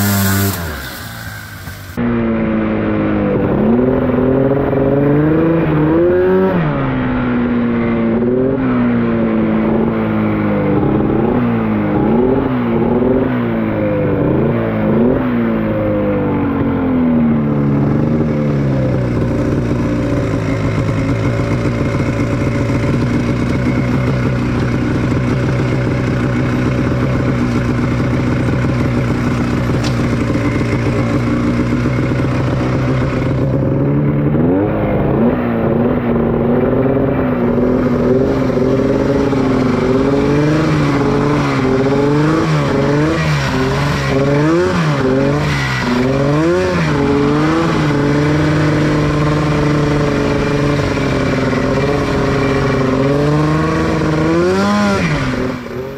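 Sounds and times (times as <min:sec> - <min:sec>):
buggy engine revving: 0:00.0 - 0:55.9.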